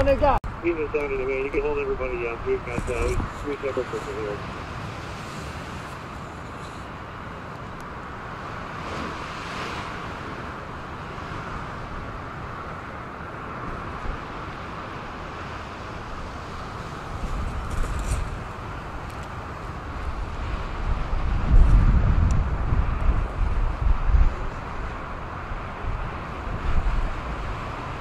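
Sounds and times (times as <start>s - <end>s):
waves breaking: 0.0s - 28.0s
wind buffeting microphone: 0.0s - 28.0s.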